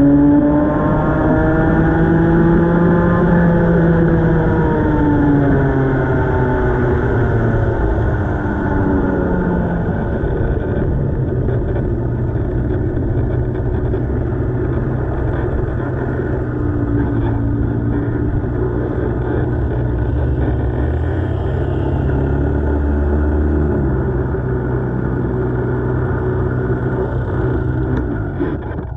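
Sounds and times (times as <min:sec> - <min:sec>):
kart engine revving: 0:00.0 - 0:28.9.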